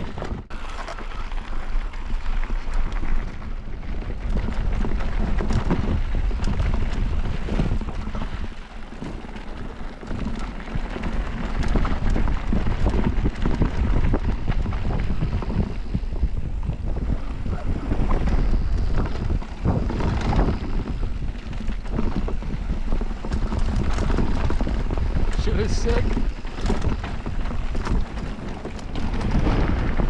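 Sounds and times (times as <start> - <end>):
bike clattering over bumps: 0.0 - 30.0
bike tyres on dirt and rock: 0.0 - 30.0
wind buffeting microphone: 0.0 - 30.0.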